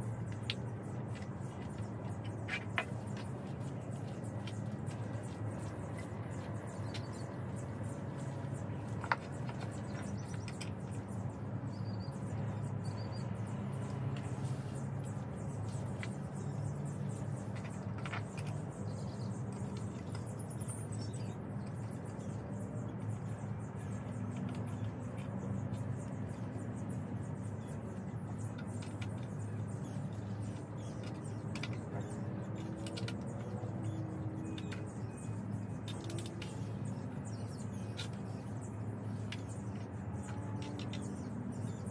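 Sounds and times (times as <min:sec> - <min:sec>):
small birds chirping: 0:00.0 - 0:41.9
steady low hum: 0:00.0 - 0:41.9.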